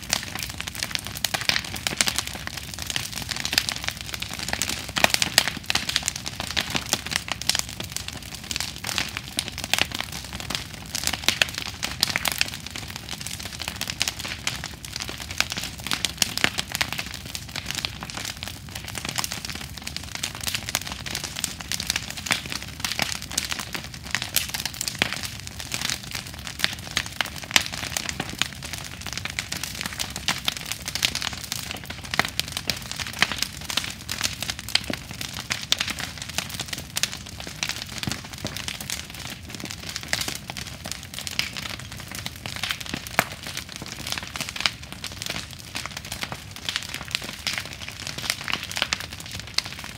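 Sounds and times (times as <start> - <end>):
bonfire crackling: 0.0 - 49.9.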